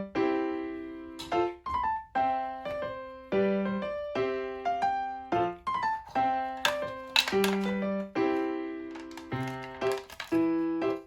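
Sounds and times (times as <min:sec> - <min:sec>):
light piano tune: 0:00.0 - 0:11.0.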